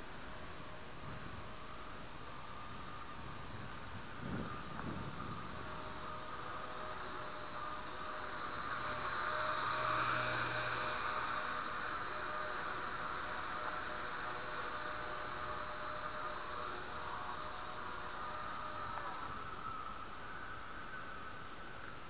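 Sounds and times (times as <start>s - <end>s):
small rc helicopter whine: 0.0s - 22.0s.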